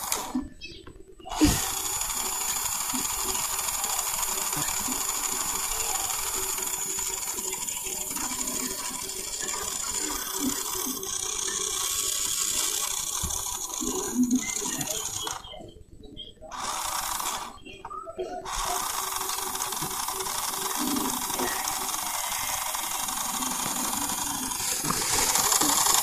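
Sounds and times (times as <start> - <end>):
small motorised tool hissing: 0.0 - 0.5, 1.2 - 15.6, 16.5 - 17.6, 18.3 - 26.0.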